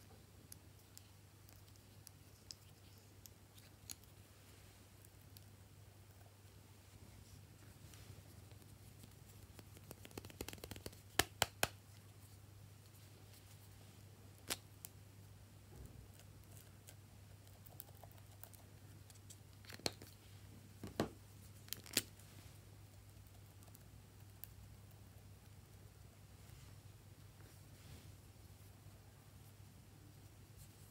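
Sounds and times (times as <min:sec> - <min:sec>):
faint low hum: 0:00.0 - 0:30.9.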